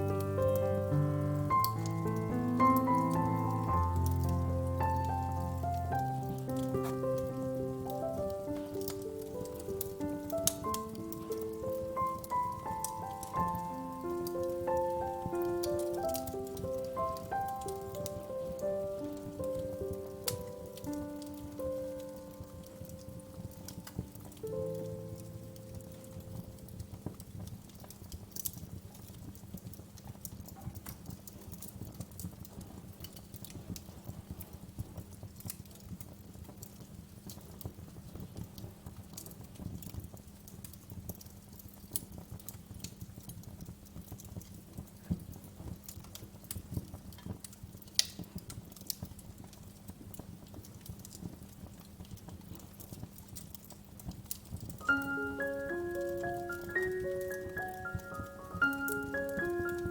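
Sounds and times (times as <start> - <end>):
rumble of flames: 0.0 - 59.9
wood fire crackling: 0.0 - 59.9.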